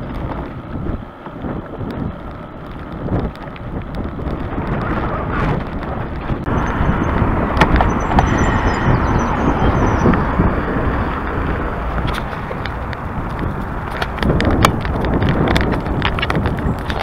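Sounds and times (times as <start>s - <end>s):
low road rumble: 0.0s - 17.0s
wind rushing over microphone: 0.0s - 17.0s.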